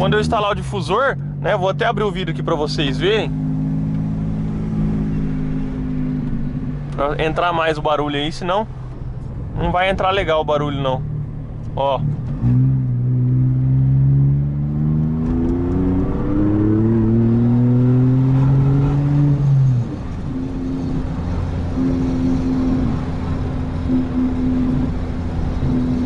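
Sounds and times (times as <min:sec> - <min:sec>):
engine accelerating hard: 0:00.0 - 0:26.0.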